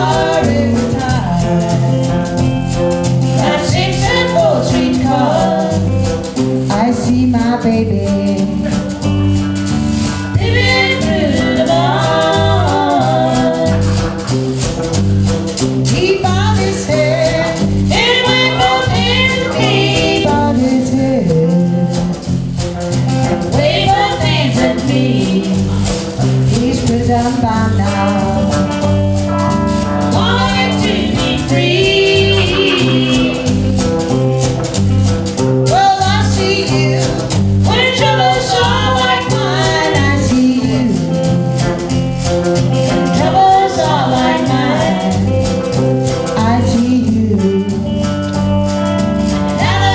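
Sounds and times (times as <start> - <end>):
person singing: 0.0 - 2.5, 3.2 - 9.2, 10.4 - 14.4, 15.9 - 22.2, 23.1 - 34.6, 35.7 - 41.8, 42.7 - 48.2
live band playing: 0.0 - 49.9.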